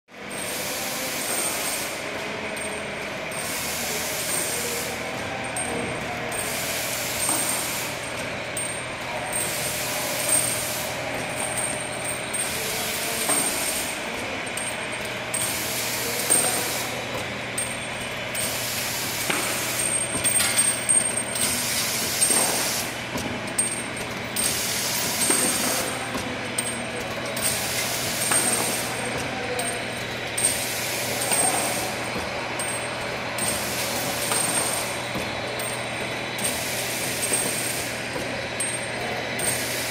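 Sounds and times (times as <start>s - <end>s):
machine hall hum: 0.1s - 39.9s.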